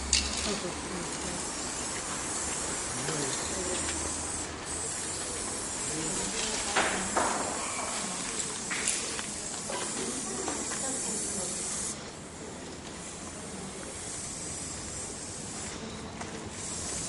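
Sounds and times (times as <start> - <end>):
spray paint can hissing: 0.0 - 12.0, 13.0 - 15.8, 16.6 - 17.0.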